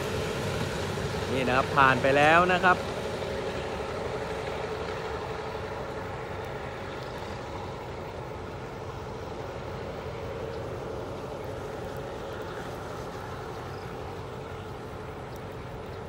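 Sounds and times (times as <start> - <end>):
distant diesel locomotive engine: 0.0 - 16.0.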